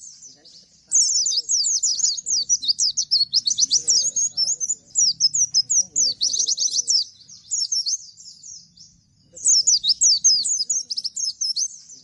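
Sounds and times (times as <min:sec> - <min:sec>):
small bird singing high notes: 0:00.9 - 0:12.0.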